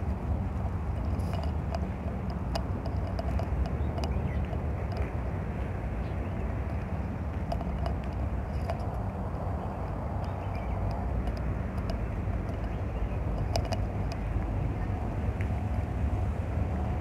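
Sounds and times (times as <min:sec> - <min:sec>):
city traffic rumble: 0:00.0 - 0:17.0
faint clicks: 0:01.0 - 0:14.6.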